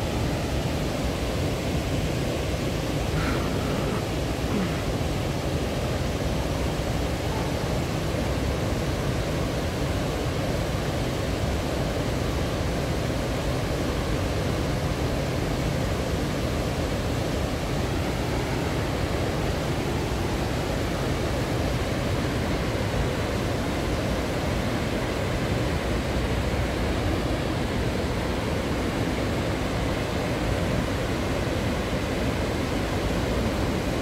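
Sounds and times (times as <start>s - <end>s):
river water pouring over weir: 0.0s - 34.0s.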